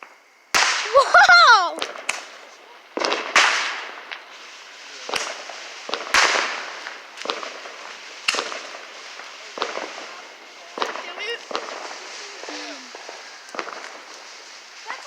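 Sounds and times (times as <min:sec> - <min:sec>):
fireworks bangs: 0:00.0 - 0:15.0
hissing echo: 0:00.0 - 0:15.0.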